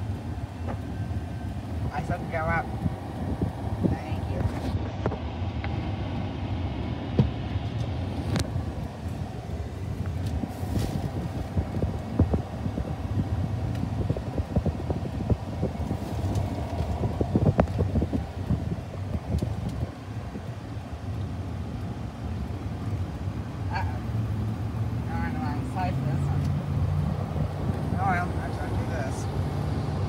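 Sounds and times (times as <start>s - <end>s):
low vehicle rumble: 0.0s - 30.0s.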